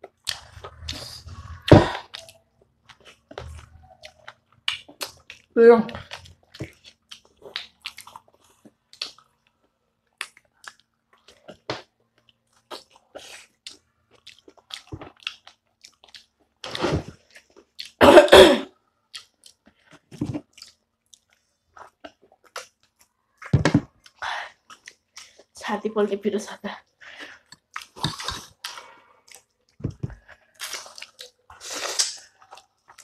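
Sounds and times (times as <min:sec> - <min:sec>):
chewing and lip-smacking: 0:00.0 - 0:18.0, 0:19.1 - 0:25.6, 0:27.2 - 0:33.0.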